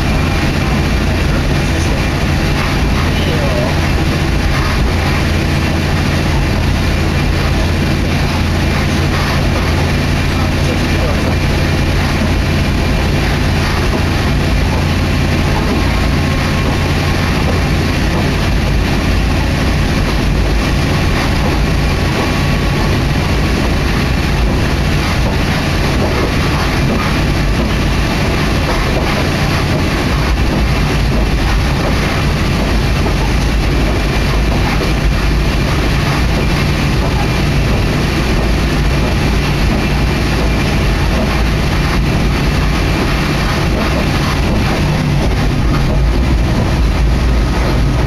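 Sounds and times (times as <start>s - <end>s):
railcar engine hum and wheel noise: 0.0s - 48.0s.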